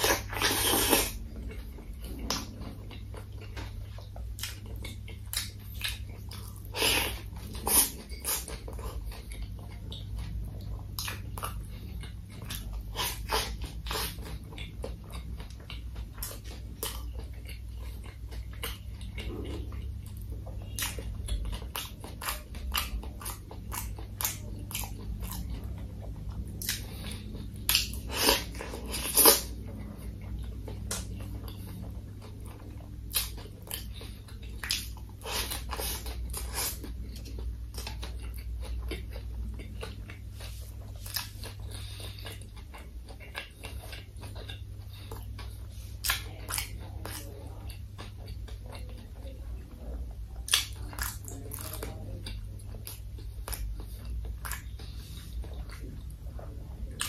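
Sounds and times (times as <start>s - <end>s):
crunchy chewing and biting: 0.0s - 49.0s, 50.4s - 57.0s.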